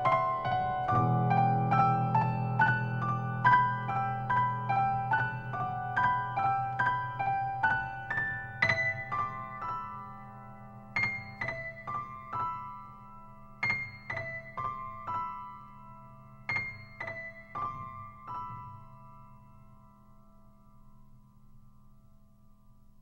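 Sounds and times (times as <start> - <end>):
slow piano notes: 0.0 - 23.0.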